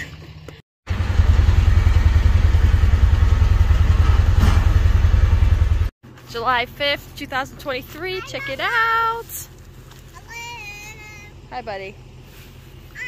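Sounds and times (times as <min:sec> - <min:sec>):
engine running with low rumble: 0:00.0 - 0:13.0.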